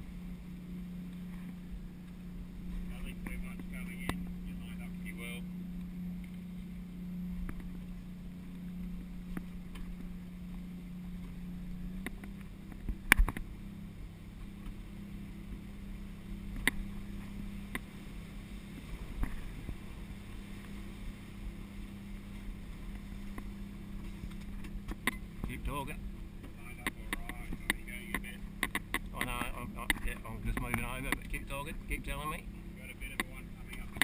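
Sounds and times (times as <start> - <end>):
boat diesel engine droning: 0.0 - 34.0.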